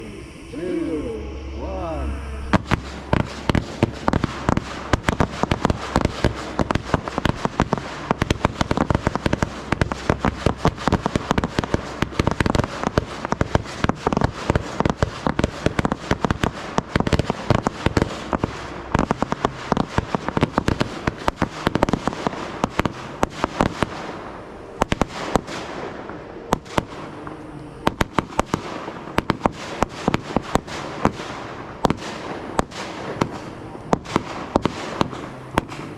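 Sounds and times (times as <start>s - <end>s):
fireworks bangs and crackles: 2.5s - 35.9s.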